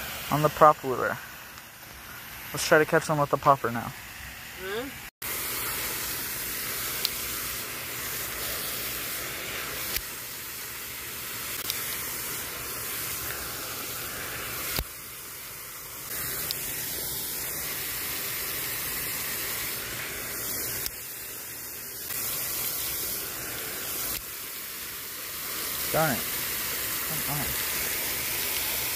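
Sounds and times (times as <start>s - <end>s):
fountain water jet splashing: 0.0s - 28.9s.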